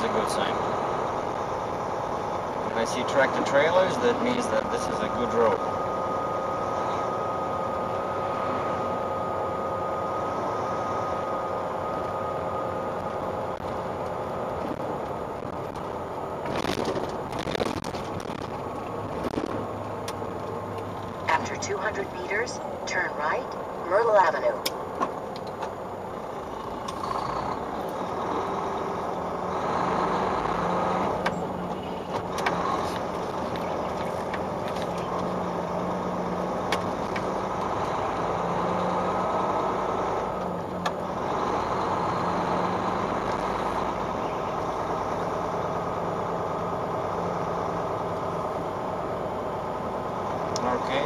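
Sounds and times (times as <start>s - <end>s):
road noise: 0.0s - 51.0s
truck diesel engine running: 0.0s - 51.0s.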